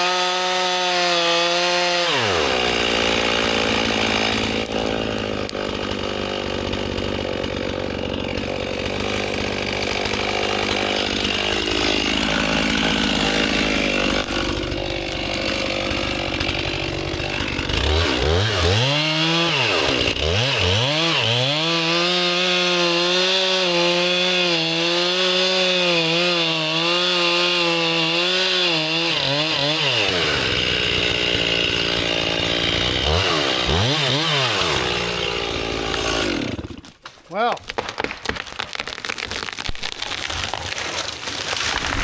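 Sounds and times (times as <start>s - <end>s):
chainsaw cutting a tree: 0.0s - 42.0s.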